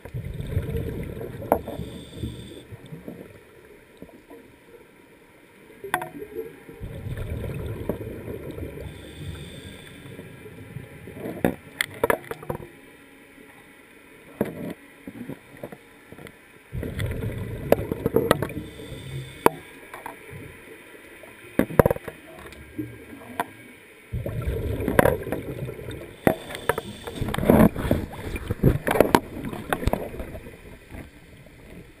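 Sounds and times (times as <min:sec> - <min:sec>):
muffled water sloshing: 0:00.0 - 0:04.8, 0:05.8 - 0:12.8, 0:14.3 - 0:32.0.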